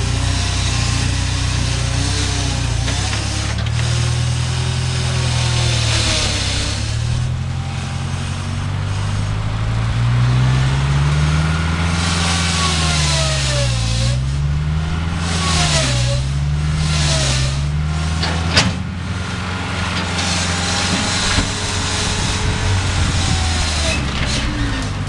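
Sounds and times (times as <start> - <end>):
skid steer engine running hard: 0.0 - 25.0.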